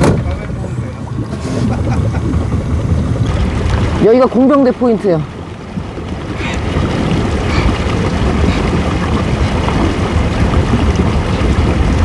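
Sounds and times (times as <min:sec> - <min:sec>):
boat motor running: 0:00.0 - 0:12.0
wind rumble on microphone: 0:00.0 - 0:12.0.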